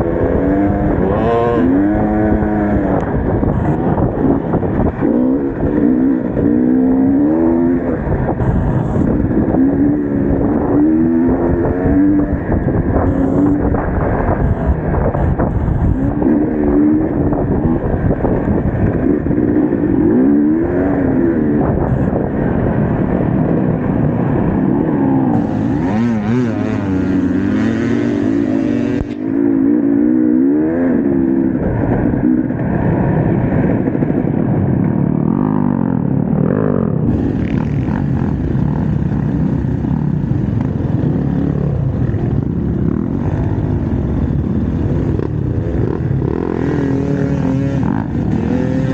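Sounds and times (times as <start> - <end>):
dirt bike engine revving: 0.0 - 32.9, 35.2 - 48.9.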